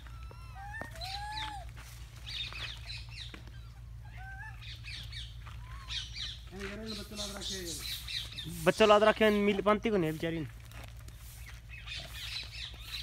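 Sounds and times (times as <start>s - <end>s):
birds whistling calls: 0.0s - 9.7s, 11.1s - 13.0s.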